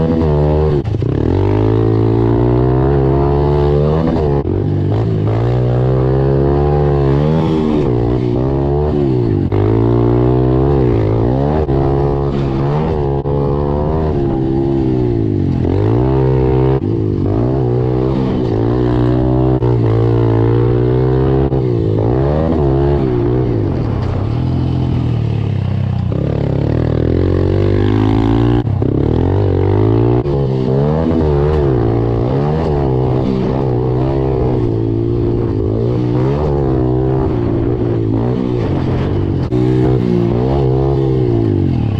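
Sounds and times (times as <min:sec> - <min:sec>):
pit bike engine revving: 0:00.0 - 0:41.9.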